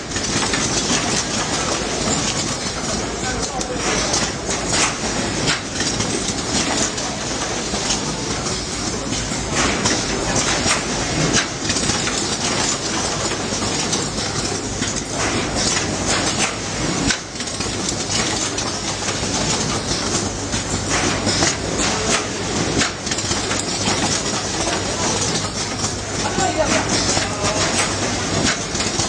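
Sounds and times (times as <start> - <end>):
factory machinery din: 0.0 - 29.0
machine parts clacking: 0.0 - 29.0.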